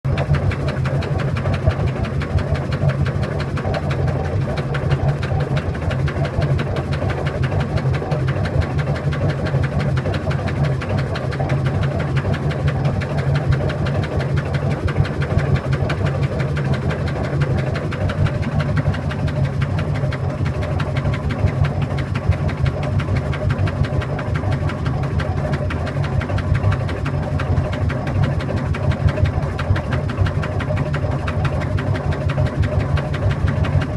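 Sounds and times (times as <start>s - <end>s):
washing machine running: 0.1s - 33.9s.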